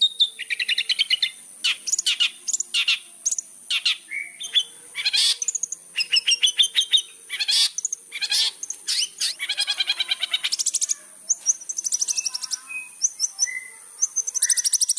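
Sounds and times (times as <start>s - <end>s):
shrike singing varied song: 0.0s - 14.9s.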